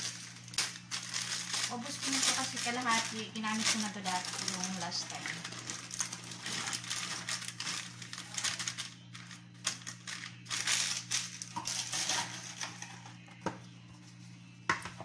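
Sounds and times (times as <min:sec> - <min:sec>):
plastic bag crinkling: 0:00.0 - 0:13.2
plastic gloves rustling: 0:00.0 - 0:13.2.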